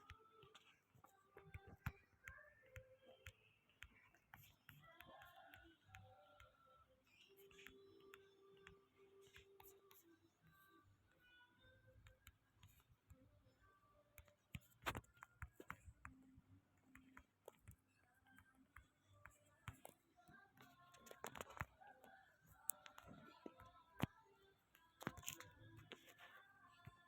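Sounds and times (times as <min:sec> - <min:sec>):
faint clicks and taps: 0:00.0 - 0:27.0.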